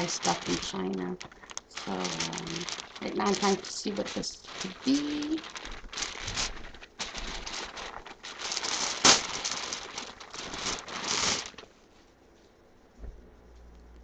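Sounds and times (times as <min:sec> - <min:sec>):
packaging crinkling and rustling: 0:00.0 - 0:11.8.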